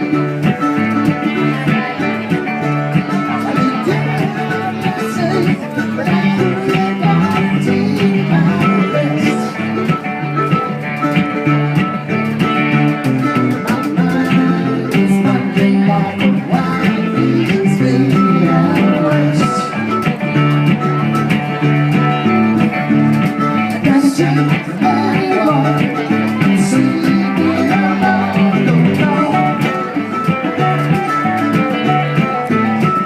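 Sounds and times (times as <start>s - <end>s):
congas beat: 0.0s - 33.0s
mandolin: 0.0s - 33.0s
plucked guitar: 0.0s - 33.0s.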